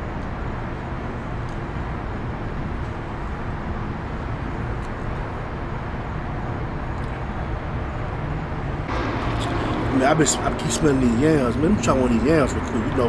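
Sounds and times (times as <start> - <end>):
urban background rumble and hiss: 0.0 - 13.0.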